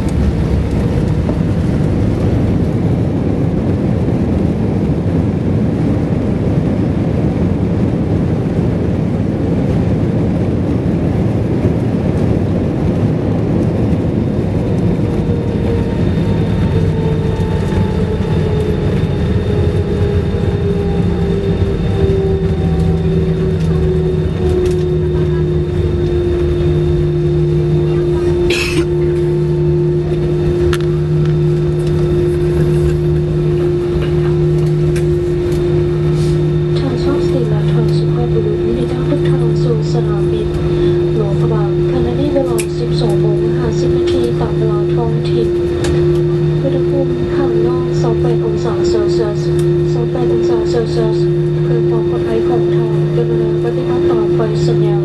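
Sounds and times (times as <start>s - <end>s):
jet engine tone: 0.0s - 55.0s
wheels rumbling on runway: 0.0s - 55.0s.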